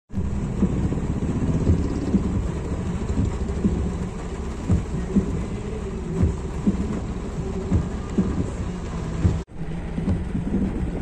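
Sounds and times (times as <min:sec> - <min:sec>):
car traffic on wet road: 0:00.1 - 0:11.0
rain: 0:00.1 - 0:11.0.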